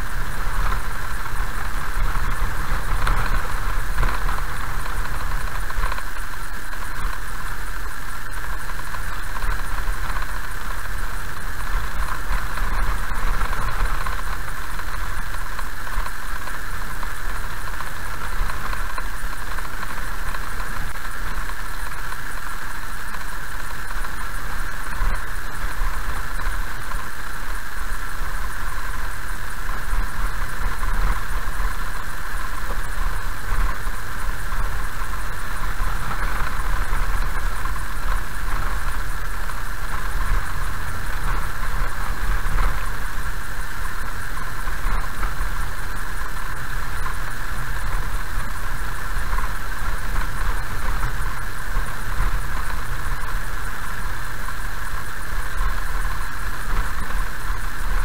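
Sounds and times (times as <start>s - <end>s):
constant hiss: 0.0s - 58.0s.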